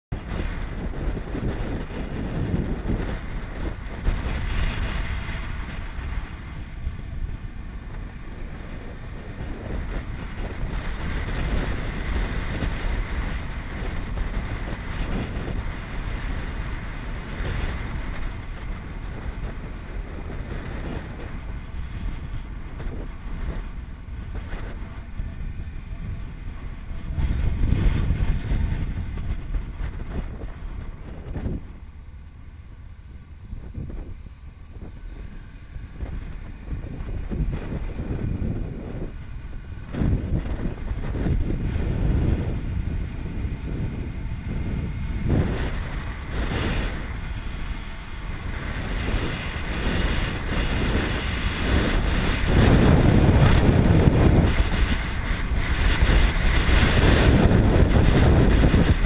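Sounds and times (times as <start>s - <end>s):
road noise: 0.0s - 59.0s
motorcycle running: 0.1s - 59.0s
wind rushing over microphone: 0.1s - 59.0s.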